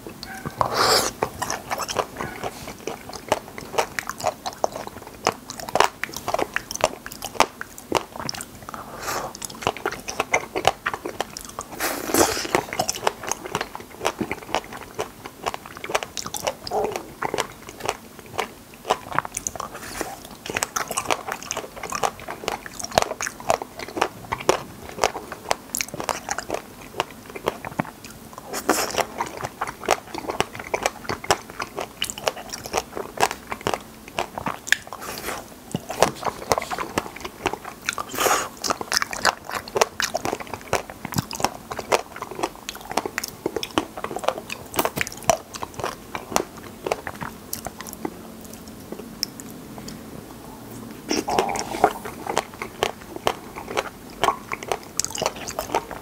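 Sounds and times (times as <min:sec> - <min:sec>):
wet biting and chewing: 0:00.0 - 0:50.1, 0:50.8 - 0:56.0.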